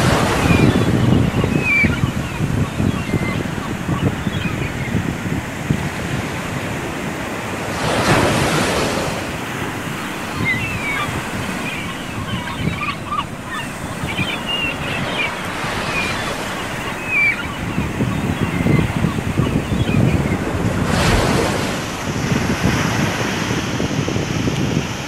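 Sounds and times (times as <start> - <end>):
ocean surf breaking on beach: 0.0 - 25.0
wind buffeting microphone: 0.0 - 25.0.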